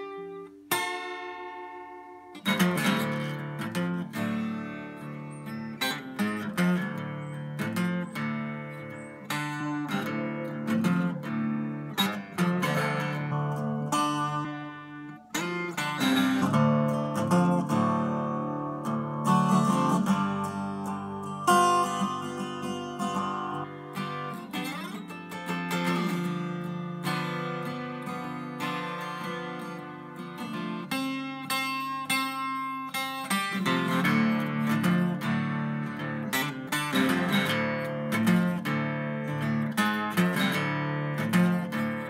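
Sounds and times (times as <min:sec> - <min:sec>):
twelve-string acoustic guitar: 0:00.0 - 0:42.0.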